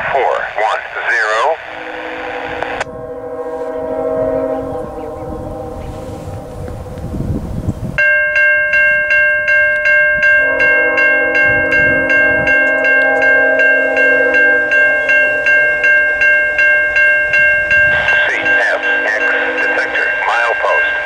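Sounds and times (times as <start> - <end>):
railroad crossing bell ringing: 1.4 - 21.0
train horn: 1.6 - 7.7, 10.2 - 21.0.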